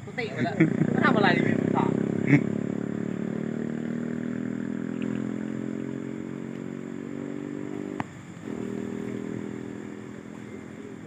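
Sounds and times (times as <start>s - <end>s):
small engine idling: 0.1s - 11.0s.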